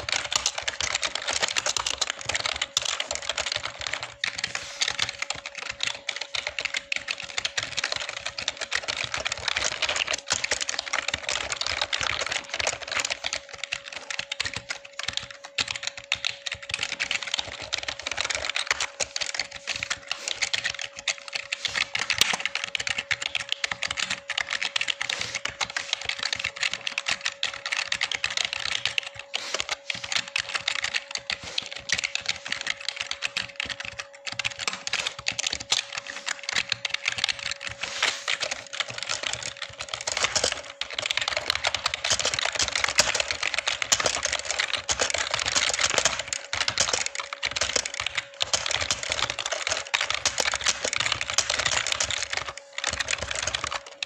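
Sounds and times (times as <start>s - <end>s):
fast keyboard typing: 0.0s - 54.0s.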